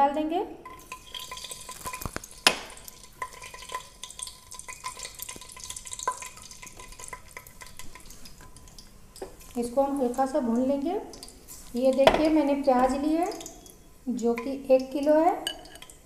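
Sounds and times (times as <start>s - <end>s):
spices sizzling in hot oil: 0.6s - 16.0s.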